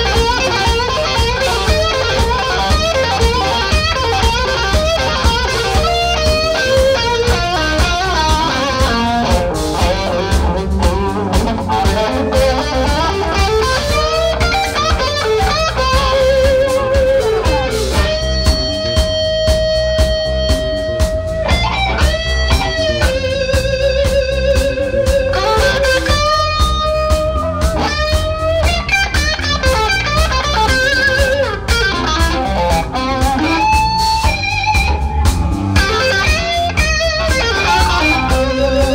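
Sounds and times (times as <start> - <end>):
bass guitar: 0.0 - 38.9
drums: 0.0 - 38.9
electric guitar solo: 0.0 - 38.9.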